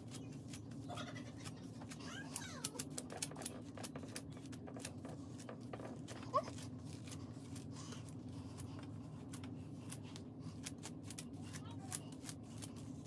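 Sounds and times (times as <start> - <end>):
comb raking through hair: 0.0 - 13.0
low steady hum: 0.0 - 13.0.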